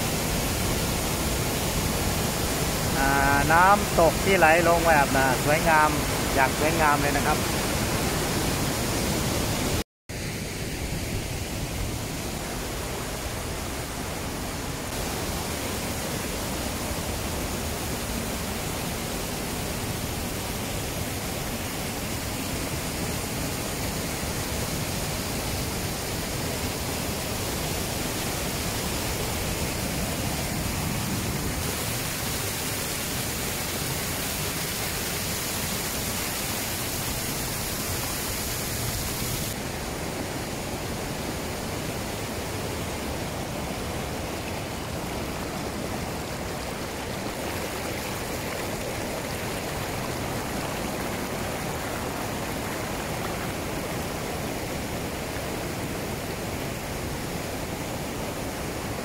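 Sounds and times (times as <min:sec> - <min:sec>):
waterfall and rapids rushing: 0:00.0 - 0:59.0.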